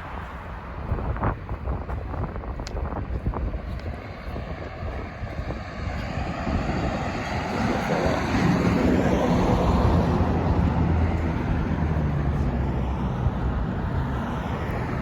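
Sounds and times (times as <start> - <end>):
road noise: 0.0 - 15.0
vehicle engine hum: 0.0 - 15.0
wind rumbling on microphone: 0.0 - 15.0.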